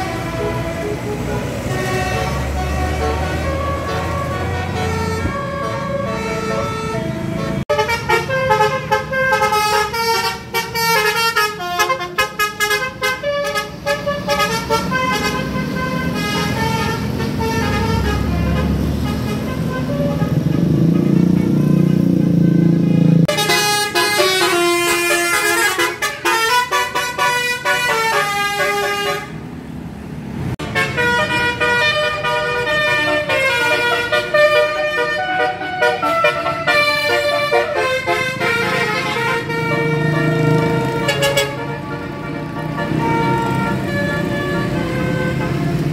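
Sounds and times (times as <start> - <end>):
bus musical air horns honking: 0.0 - 29.6, 30.6 - 45.9
bus engine rumble: 0.0 - 45.9.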